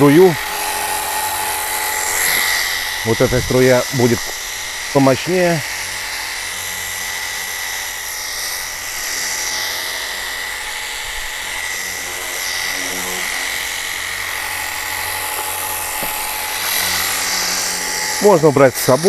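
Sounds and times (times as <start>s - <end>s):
pressure washer pump whine: 0.0s - 19.0s.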